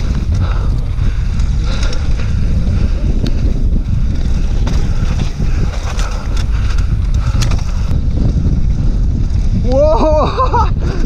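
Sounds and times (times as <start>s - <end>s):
bike clicks and knocks: 0.0s - 9.9s
bike tyres rumbling on dirt: 0.0s - 11.0s
wind rushing over microphone: 0.0s - 11.0s.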